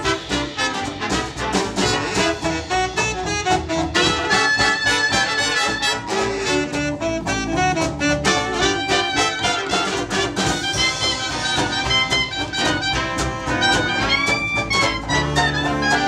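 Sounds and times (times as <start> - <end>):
dance band playing: 0.0 - 16.0.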